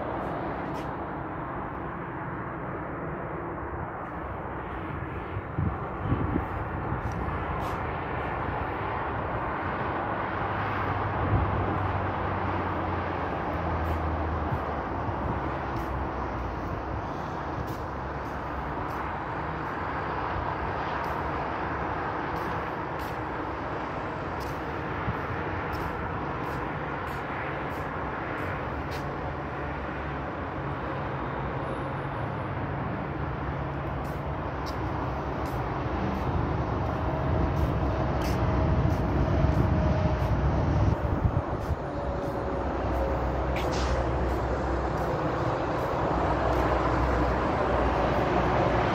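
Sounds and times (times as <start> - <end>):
distant highway traffic: 0.0 - 48.9.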